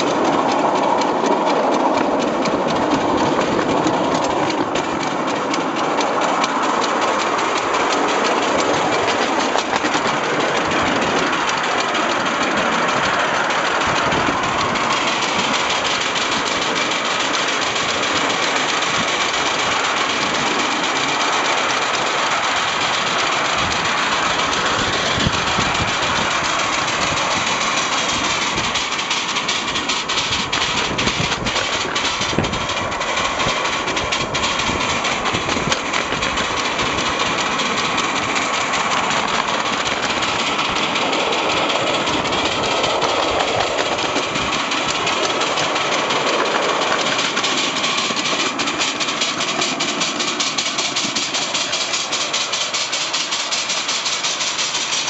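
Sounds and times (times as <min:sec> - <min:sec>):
steam locomotive running: 0:00.0 - 0:55.0
wheels on rail: 0:00.0 - 0:55.0.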